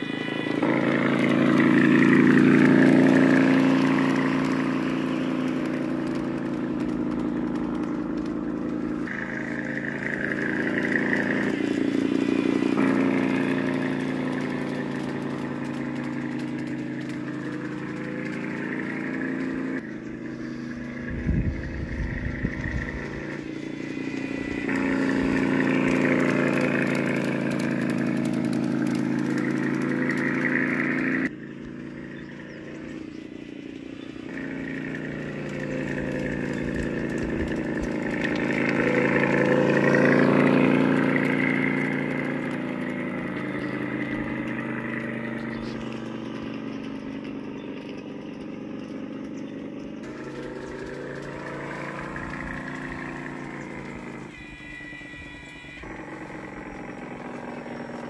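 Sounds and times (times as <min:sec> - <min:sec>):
model locomotive humming: 0:00.0 - 0:58.0.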